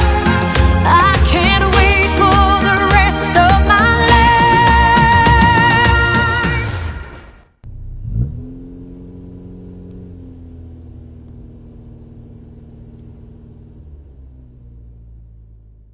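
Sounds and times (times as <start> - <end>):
car engine revving: 0.0 - 15.9
low road rumble: 0.0 - 15.9.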